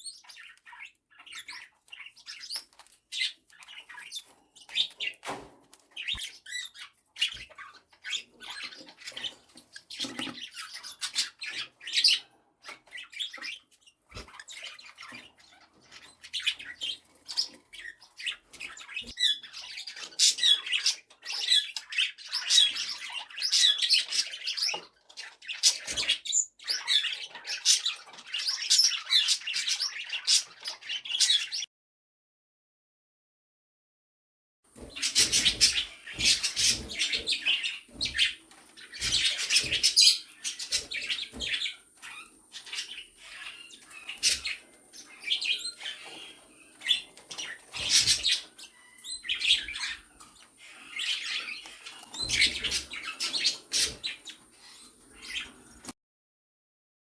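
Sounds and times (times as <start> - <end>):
cockatiels chirping and squawking: 0.0 - 31.7, 34.7 - 56.0.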